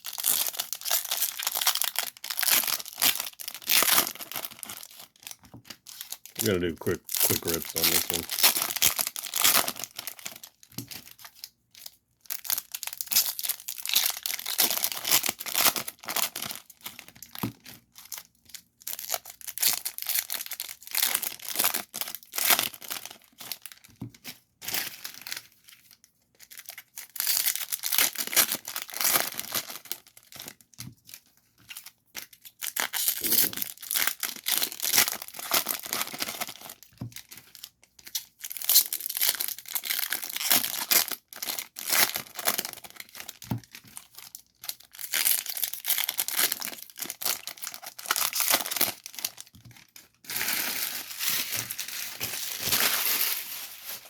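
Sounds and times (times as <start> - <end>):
foil wrappers tearing and crinkling: 0.0 - 18.3, 18.9 - 23.9, 24.7 - 30.6, 31.8 - 54.0.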